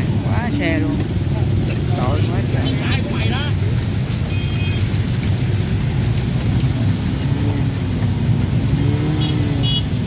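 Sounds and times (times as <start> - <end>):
low rumble of vehicle engines: 0.0 - 10.0.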